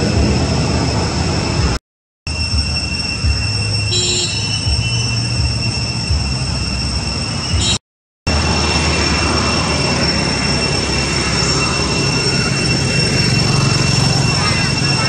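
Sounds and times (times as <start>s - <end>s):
high-pitched insect drone: 2.3s - 15.0s.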